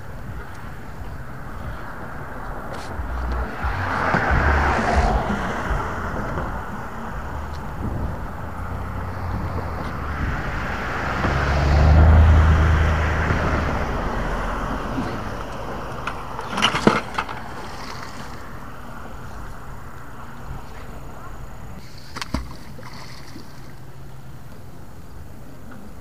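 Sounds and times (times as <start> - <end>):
vehicle engine and tyre rumble: 0.0 - 26.0.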